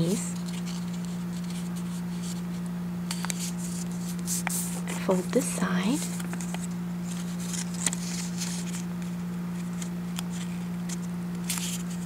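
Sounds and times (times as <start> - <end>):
steady low hum: 0.0 - 12.0
paper crinkling: 0.1 - 12.0.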